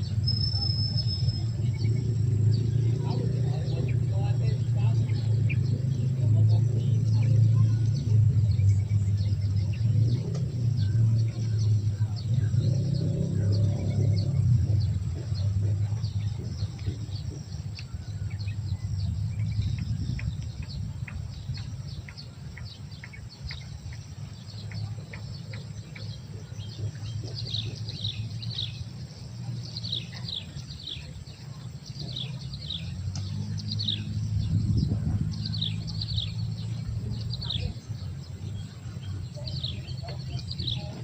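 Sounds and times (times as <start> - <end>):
birds chirping: 0.0 - 41.0
low rumble: 0.0 - 41.0.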